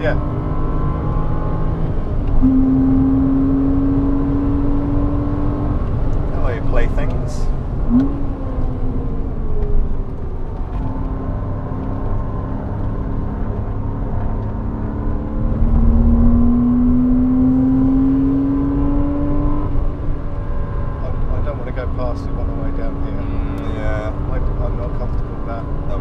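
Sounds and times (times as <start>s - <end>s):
car engine accelerating: 0.0s - 26.0s
road rumble: 0.0s - 26.0s.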